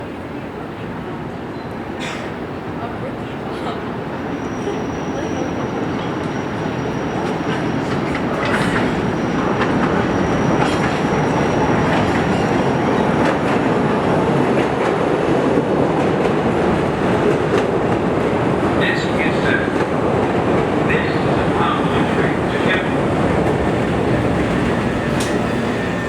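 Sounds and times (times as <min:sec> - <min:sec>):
steel wheels rumbling on rail: 0:00.0 - 0:26.0.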